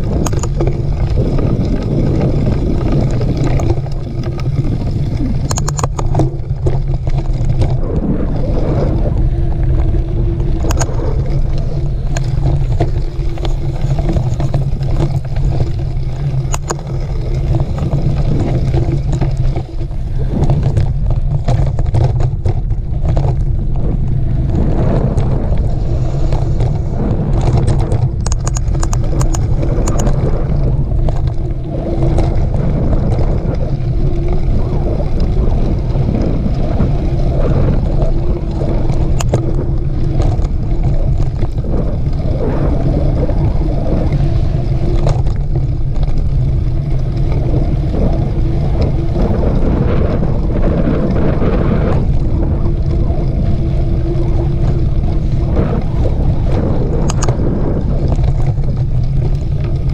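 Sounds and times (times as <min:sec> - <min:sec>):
bike clicks and rattles: 0:00.0 - 0:59.9
wind rumble on microphone: 0:00.0 - 0:59.9.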